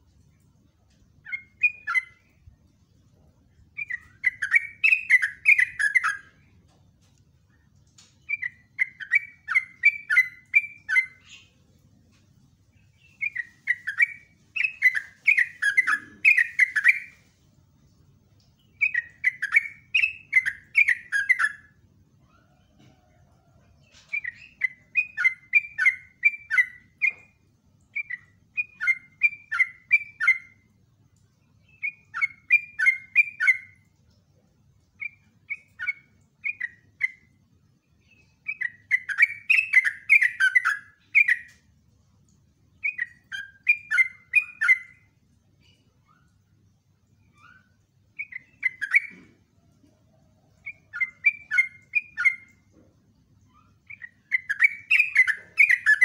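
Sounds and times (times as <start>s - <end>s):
bird singing chattering song: 1.2s - 2.5s, 3.5s - 6.6s, 7.5s - 11.6s, 12.7s - 17.3s, 18.5s - 22.8s, 23.8s - 30.7s, 31.5s - 33.9s, 35.0s - 41.6s, 42.7s - 49.5s, 50.4s - 56.0s.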